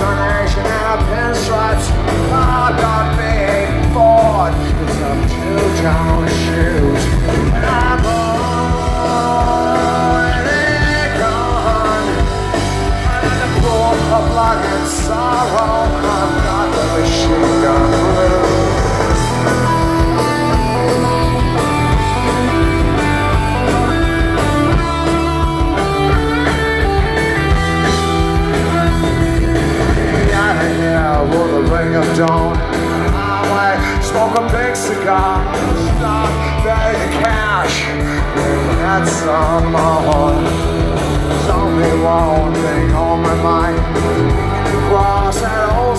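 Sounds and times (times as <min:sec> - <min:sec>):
punk rock band playing live: 0:00.0 - 0:45.9.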